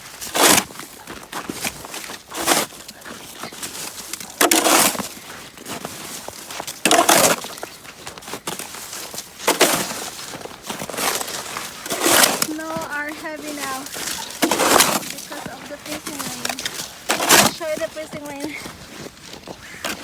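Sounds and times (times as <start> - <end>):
snow shovel scraping icy snow: 0.0 - 20.0.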